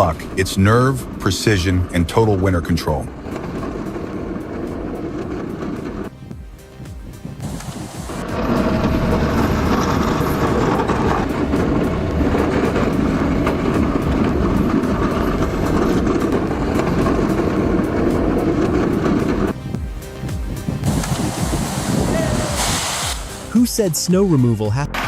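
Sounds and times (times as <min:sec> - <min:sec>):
snow-clearing machine running: 0:00.0 - 0:25.0.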